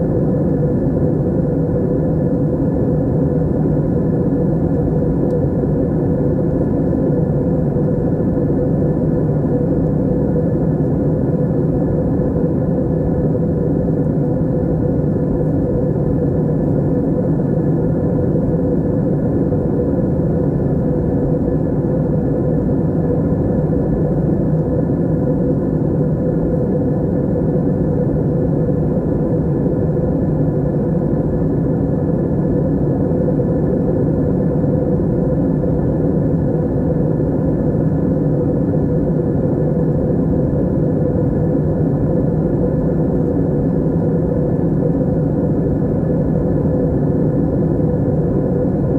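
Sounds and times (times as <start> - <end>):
airliner cabin drone: 0.0 - 48.9
faint hum: 0.0 - 48.9.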